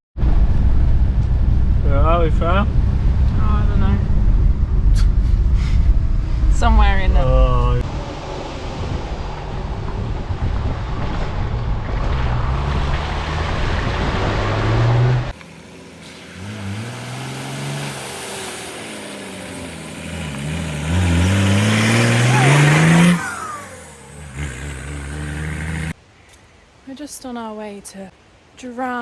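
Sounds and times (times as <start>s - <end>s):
car engine driving: 0.2s - 26.0s
road and wind noise: 0.2s - 29.0s.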